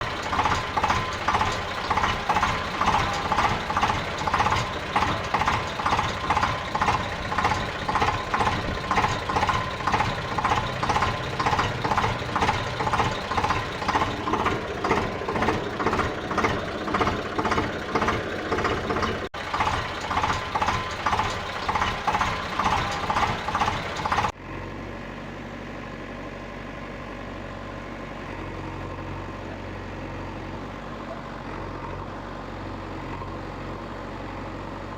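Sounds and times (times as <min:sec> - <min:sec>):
engine chugging: 0:00.0 - 0:34.9
steady engine hum: 0:00.0 - 0:34.9.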